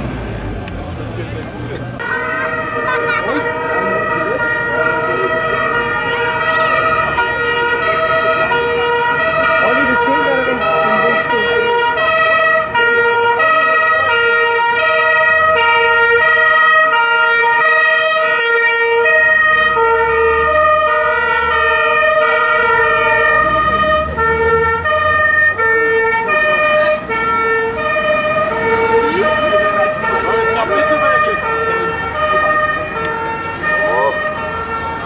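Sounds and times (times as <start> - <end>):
vehicle engines rumbling: 0.0 - 35.0
two-tone siren: 2.0 - 35.0.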